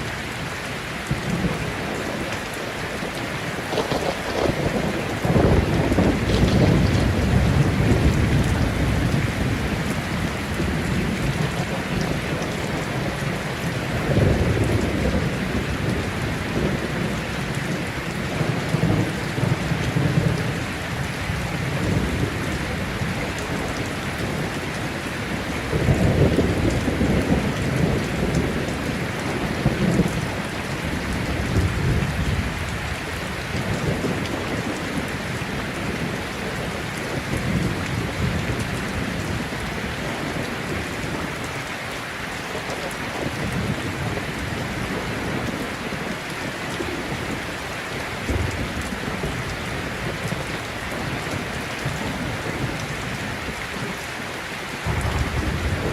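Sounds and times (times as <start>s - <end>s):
thunder rumbling: 0.0s - 41.6s, 42.6s - 54.0s, 54.8s - 55.9s
heavy rain falling: 0.0s - 55.9s.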